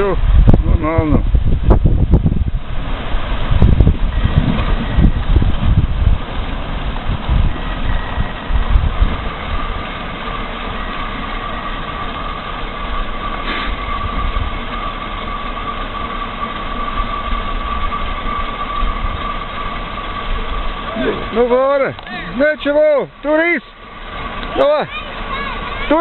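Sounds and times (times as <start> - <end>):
heavy machine engine running: 0.0 - 26.0
low buffeting thumps: 0.2 - 22.5
steady high whine: 1.1 - 26.0.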